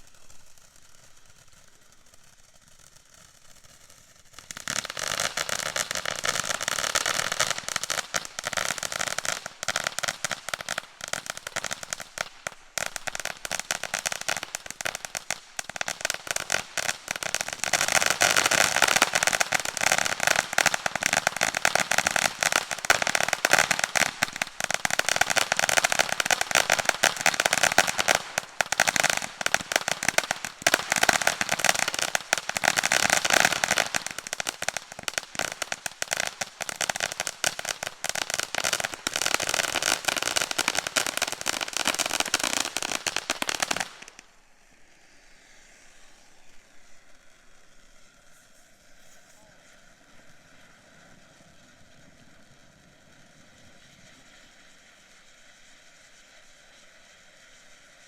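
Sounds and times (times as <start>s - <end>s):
firework crackling pops: 0.0s - 58.0s.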